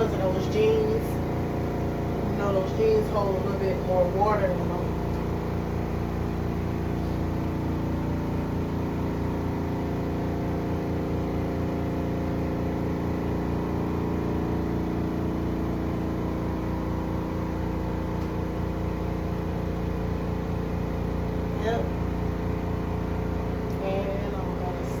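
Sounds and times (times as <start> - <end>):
spin dryer motor humming: 0.0 - 25.0.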